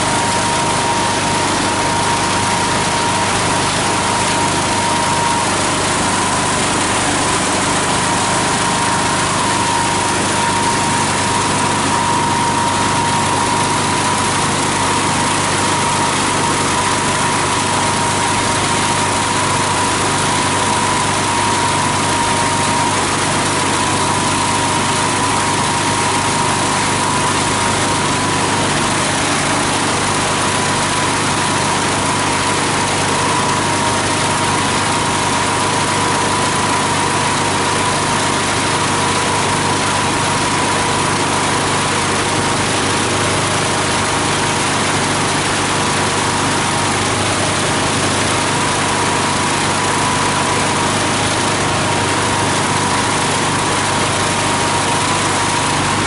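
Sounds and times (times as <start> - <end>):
diesel engine running: 0.0 - 56.0
grinder high whine: 0.0 - 56.0.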